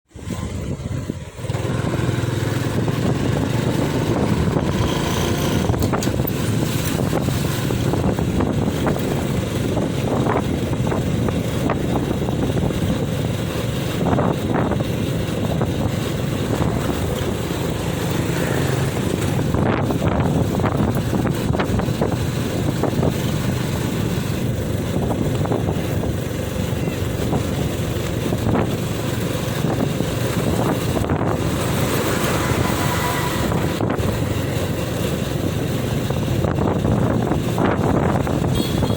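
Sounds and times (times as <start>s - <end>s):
tyres on road: 0.0s - 38.9s
heavy trucks passing: 0.2s - 38.9s.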